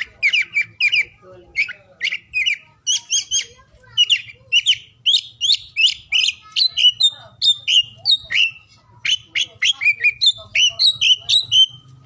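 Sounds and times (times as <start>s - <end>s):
bird singing whistled notes: 0.0s - 12.0s.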